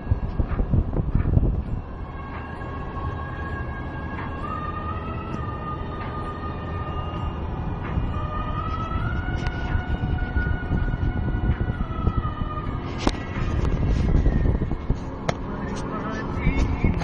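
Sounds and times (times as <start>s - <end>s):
car cabin road and engine noise: 0.0s - 17.0s.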